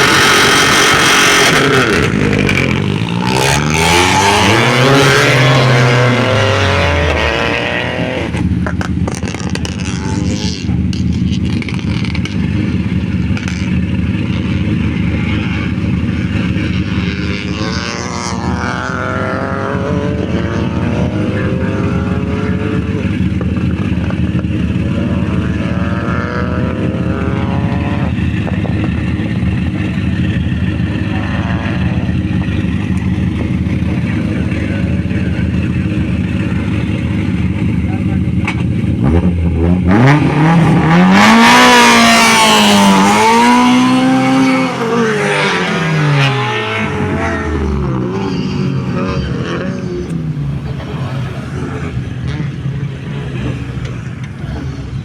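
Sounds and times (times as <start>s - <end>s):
car engine idling: 0.0s - 55.0s
rally car engine revving: 0.0s - 55.0s.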